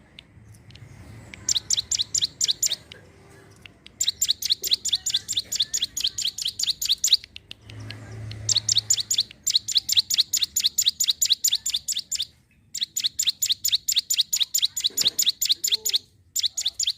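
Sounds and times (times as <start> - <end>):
bird fast sharp high chirps: 0.3 - 3.0, 3.9 - 16.9.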